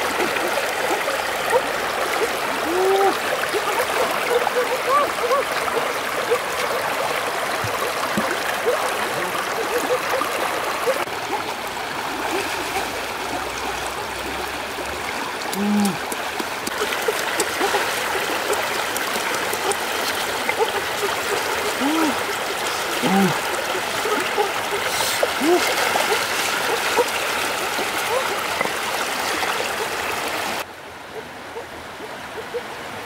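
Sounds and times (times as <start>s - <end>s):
gurgling bubbles: 0.0s - 30.6s
stream flowing over stones: 0.0s - 33.0s.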